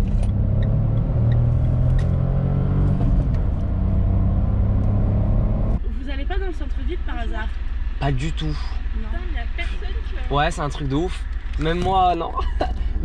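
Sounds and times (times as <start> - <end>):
car engine hum: 0.0 - 13.0
tyre and road noise: 0.0 - 13.0.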